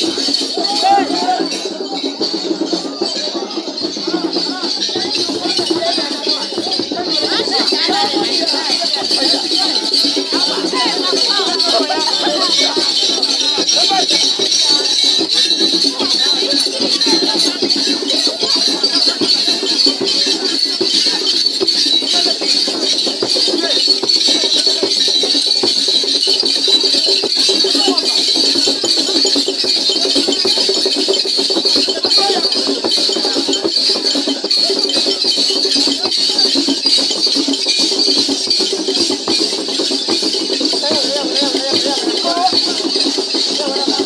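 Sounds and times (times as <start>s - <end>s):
crowd voices: 0.0s - 44.0s
rattles and jingles shaken: 0.0s - 44.0s.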